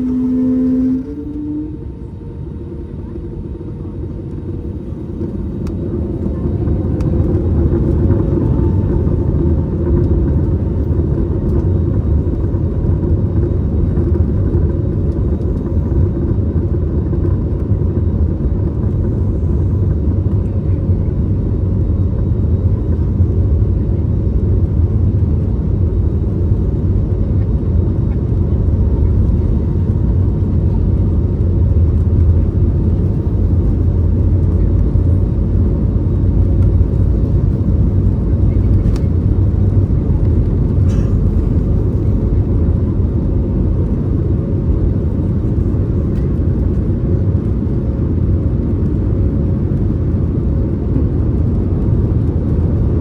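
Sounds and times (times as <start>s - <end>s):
loud rumble of takeoff roll: 0.0s - 53.0s.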